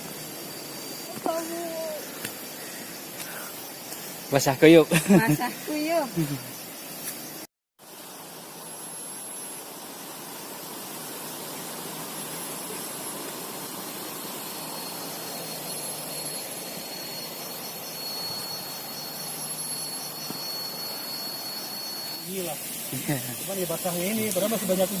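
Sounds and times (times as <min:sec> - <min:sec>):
thin high steady tone: 0:00.0 - 0:25.0.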